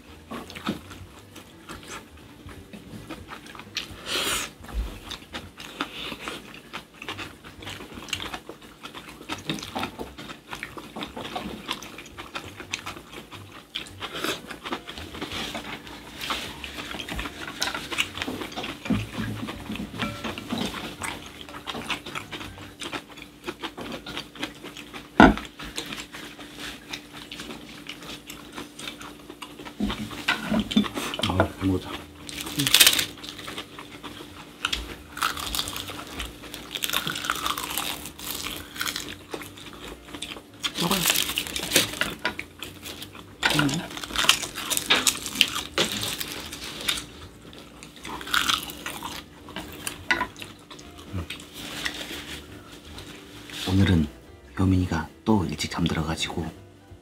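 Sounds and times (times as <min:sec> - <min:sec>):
wet chewing and lip-smacking: 0:00.0 - 0:51.6.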